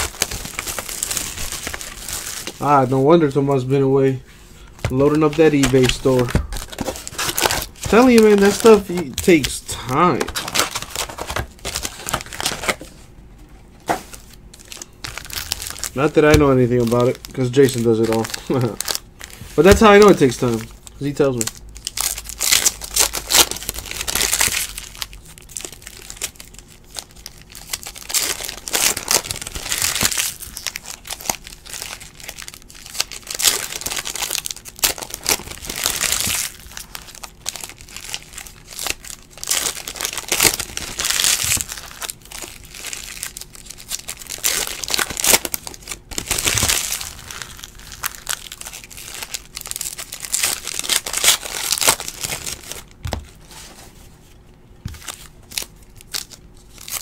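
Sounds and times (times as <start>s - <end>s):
foil wrappers crinkling and tearing: 0.0s - 12.9s, 14.0s - 57.0s.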